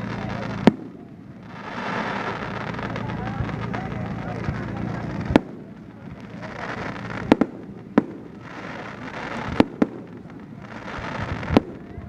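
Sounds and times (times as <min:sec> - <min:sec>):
crackling hiss: 0:00.0 - 0:12.0
fireworks bangs: 0:00.0 - 0:12.0.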